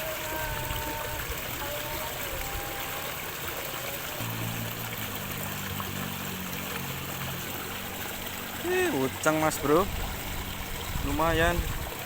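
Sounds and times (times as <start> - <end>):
flowing stream: 0.0 - 12.0
low steady hum: 0.0 - 12.0.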